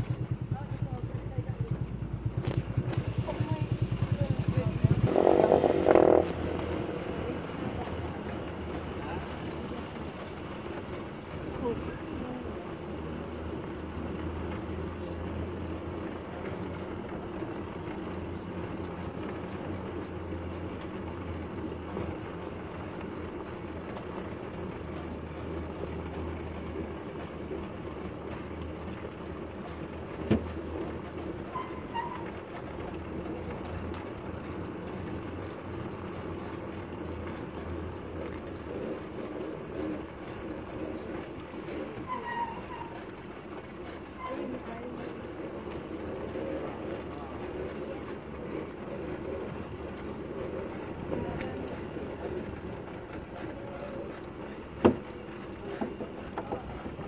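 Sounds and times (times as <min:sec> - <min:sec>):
motorcycle engine running: 0:00.0 - 0:57.0
road noise: 0:00.0 - 0:57.0.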